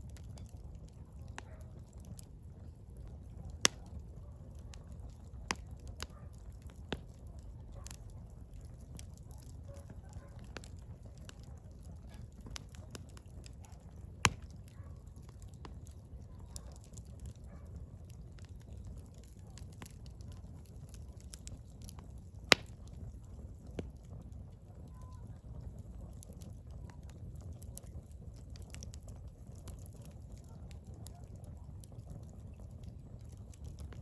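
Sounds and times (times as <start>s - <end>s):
firewood crackling: 0.0s - 34.0s
low rumble of fire: 0.0s - 34.0s.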